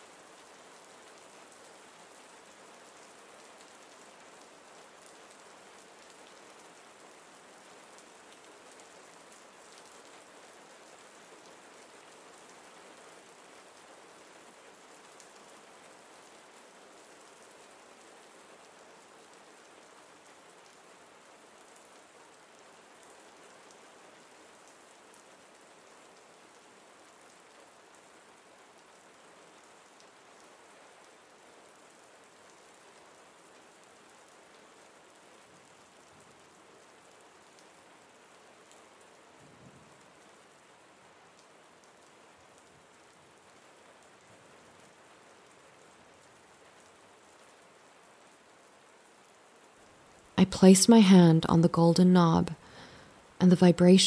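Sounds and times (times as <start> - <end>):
faint steady rain: 0.0 - 54.0.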